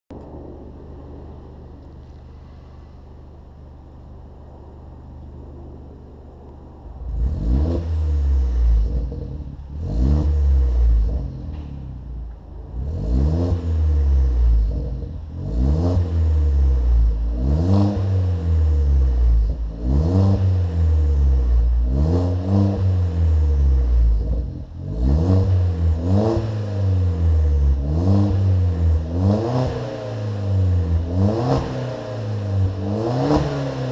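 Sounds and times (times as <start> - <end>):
car exhaust idling and revving: 0.0 - 33.9.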